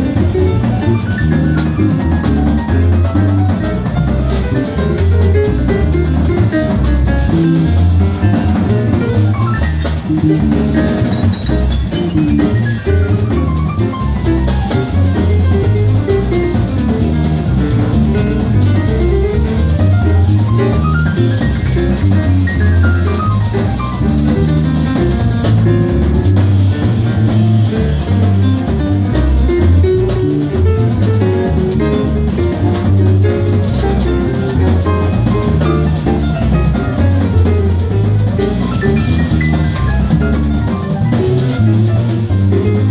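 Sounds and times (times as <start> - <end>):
bass line: 0.0 - 42.9
drum kit: 0.0 - 42.9
jazz band playing: 0.0 - 42.9.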